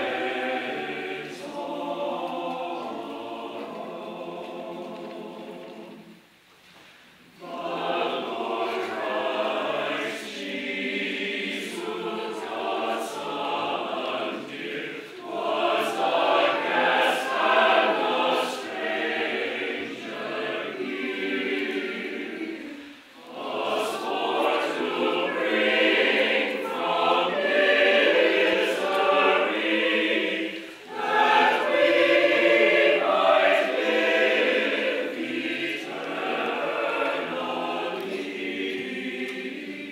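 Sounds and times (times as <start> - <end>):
choir singing a carol: 0.0 - 6.4, 7.2 - 39.9.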